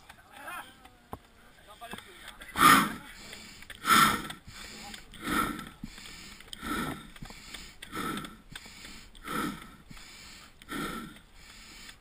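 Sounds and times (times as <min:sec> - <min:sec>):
person breathing heavily: 0:02.1 - 0:12.0.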